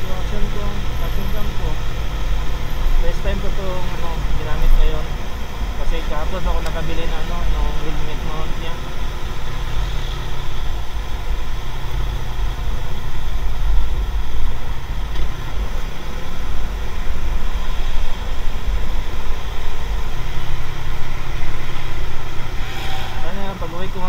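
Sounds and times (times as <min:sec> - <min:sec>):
engine noise: 0:00.0 - 0:24.0
road noise: 0:00.0 - 0:24.0.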